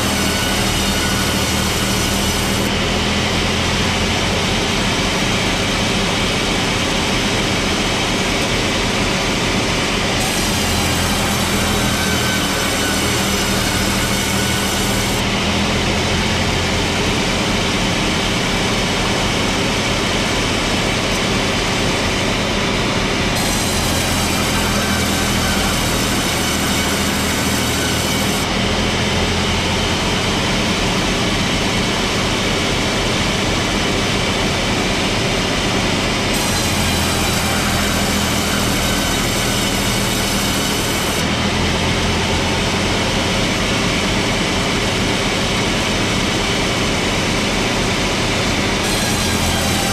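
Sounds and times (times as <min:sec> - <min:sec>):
high-pitched saw whine: 0:00.0 - 0:49.9
sawmill machinery running: 0:00.0 - 0:49.9.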